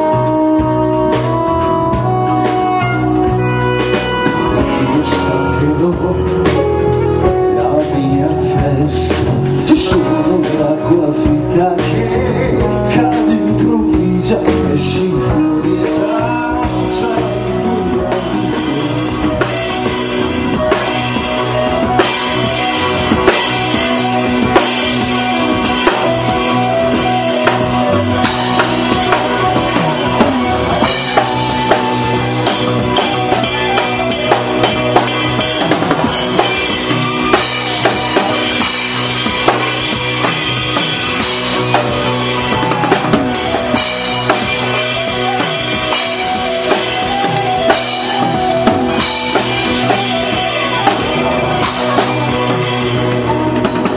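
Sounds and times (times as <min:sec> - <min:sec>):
drum kit beat: 0:00.0 - 0:53.9
live band playing: 0:00.0 - 0:53.9.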